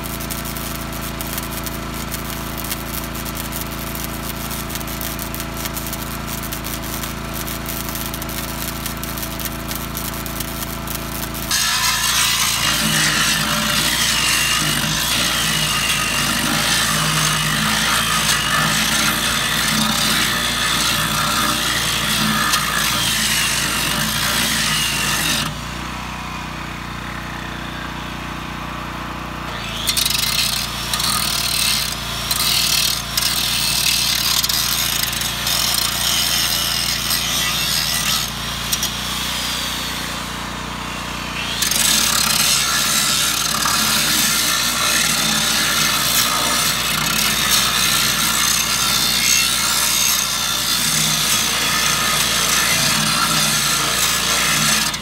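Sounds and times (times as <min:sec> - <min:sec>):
angle grinder grinding steel: 0:00.0 - 0:25.6, 0:29.5 - 0:55.0.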